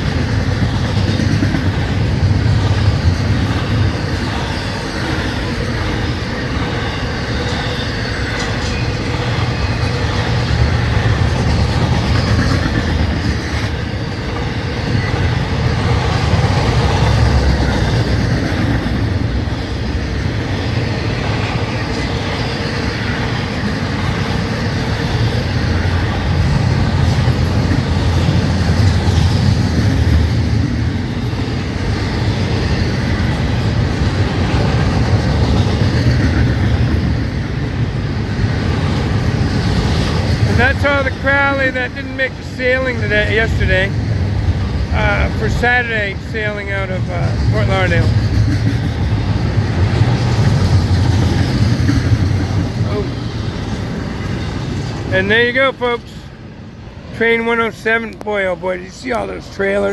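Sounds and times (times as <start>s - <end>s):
train clatter: 0.0s - 59.9s
train wheels rumbling on rails: 0.0s - 59.9s.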